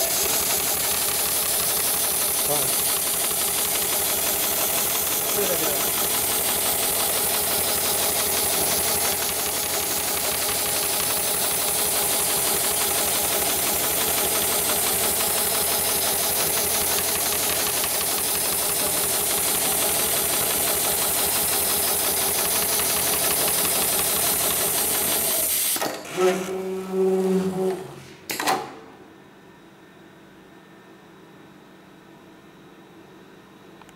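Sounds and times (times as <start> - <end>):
stitching machine running: 0.0 - 27.8.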